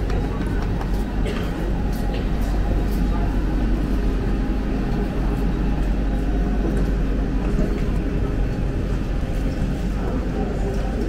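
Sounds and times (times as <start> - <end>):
low station rumble: 0.0 - 11.0.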